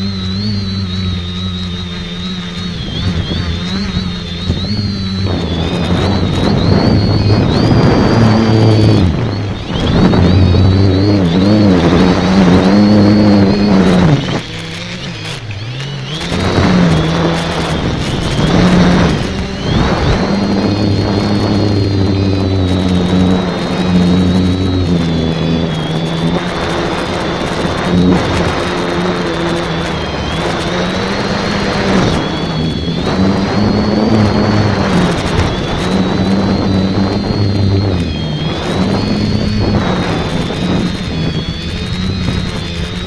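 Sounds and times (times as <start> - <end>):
drone propellers buzzing: 0.0 - 43.0
high motor whine: 0.0 - 43.0.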